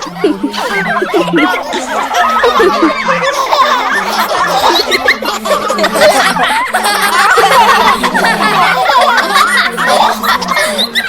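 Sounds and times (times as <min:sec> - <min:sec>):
children laughing: 0:00.0 - 0:11.0.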